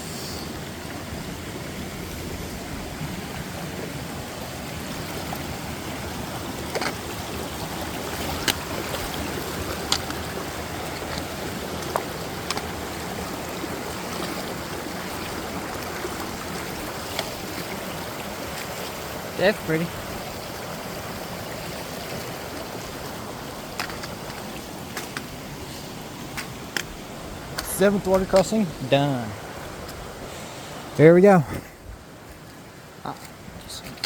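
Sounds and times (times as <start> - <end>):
creek water rushing over rocks: 0.0 - 34.0.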